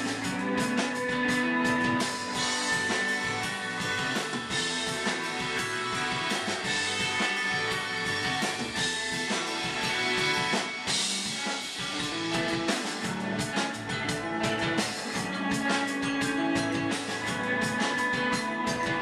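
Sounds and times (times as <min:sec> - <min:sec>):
drum kit with cymbals: 0:00.0 - 0:19.0
electric guitars: 0:00.0 - 0:19.0.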